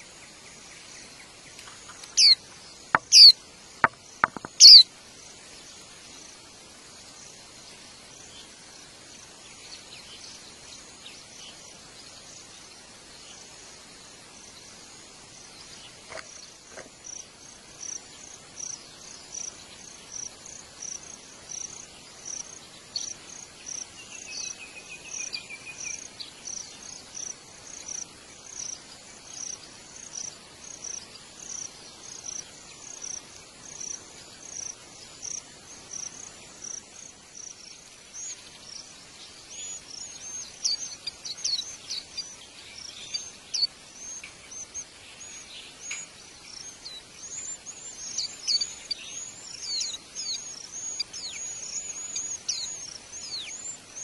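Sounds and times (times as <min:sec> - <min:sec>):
birds chirping: 0:00.0 - 0:06.5, 0:14.4 - 0:54.0
cricket chirping: 0:00.0 - 0:54.0.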